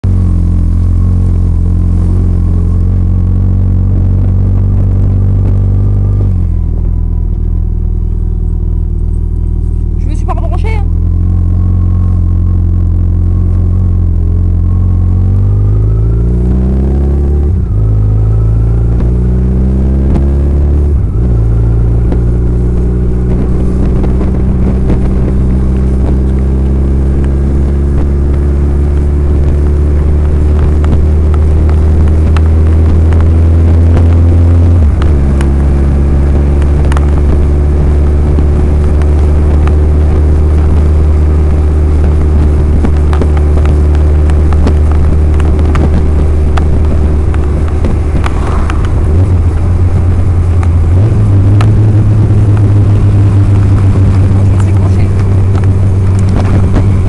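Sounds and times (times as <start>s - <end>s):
motorcycle engine revving through gears: 0.0s - 57.0s.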